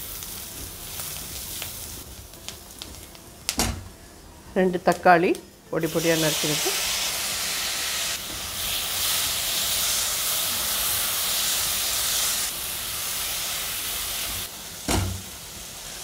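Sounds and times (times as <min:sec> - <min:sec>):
tomatoes sizzling in oil: 0:00.0 - 0:03.9, 0:04.6 - 0:16.0.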